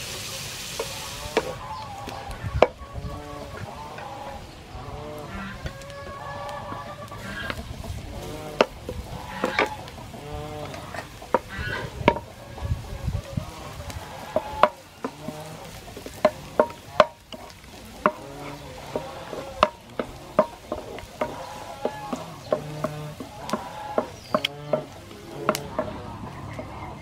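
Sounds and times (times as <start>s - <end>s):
light sizzle of oil: 0.0s - 2.4s, 5.7s - 25.6s
spatula scraping a pan: 0.0s - 26.5s.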